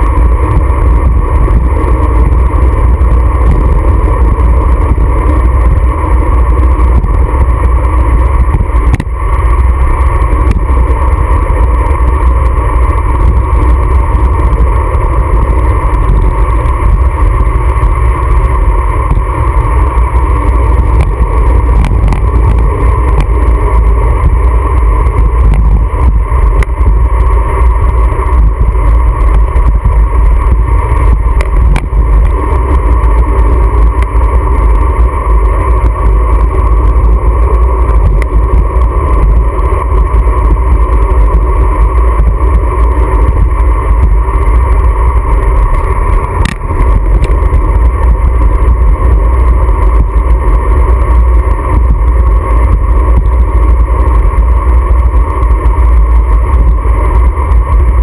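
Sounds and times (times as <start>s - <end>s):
motorcycle engine drone: 0.0s - 58.0s
wind rush over camera: 0.0s - 58.0s.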